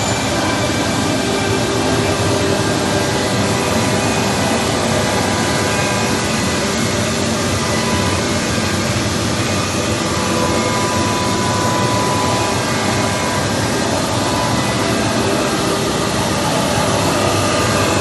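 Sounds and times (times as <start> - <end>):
faint whining tones: 0.0 - 18.0
woodworking machine running: 0.0 - 18.0.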